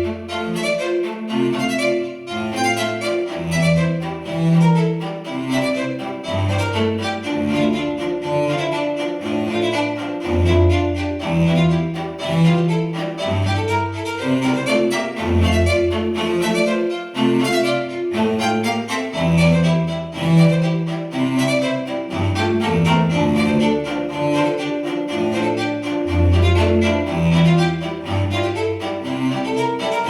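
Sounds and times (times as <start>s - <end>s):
string instruments playing rhythmically: 0.0s - 30.0s.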